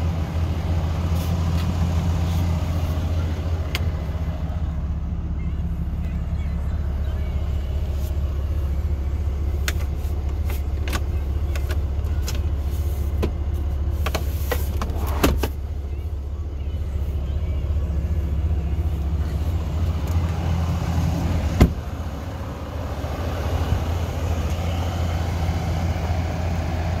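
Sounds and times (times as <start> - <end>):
pickup engine idling: 0.0 - 27.0.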